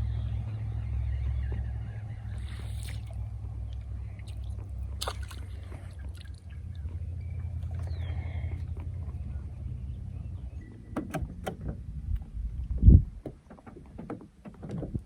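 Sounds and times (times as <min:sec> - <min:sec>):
boat engine hum: 0:00.0 - 0:15.0
water sloshing and gurgling: 0:01.3 - 0:09.9, 0:11.2 - 0:15.0.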